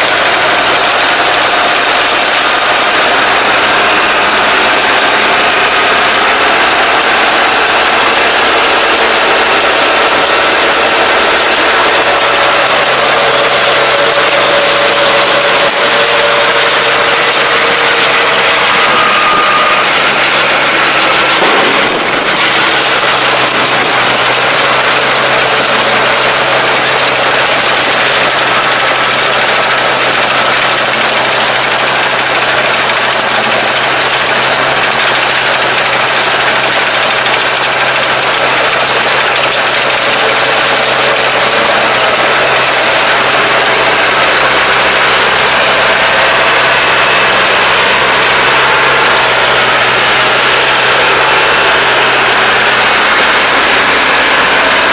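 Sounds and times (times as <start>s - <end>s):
round baler baling straw: 0.0s - 54.9s
tractor diesel engine under load: 0.0s - 54.9s.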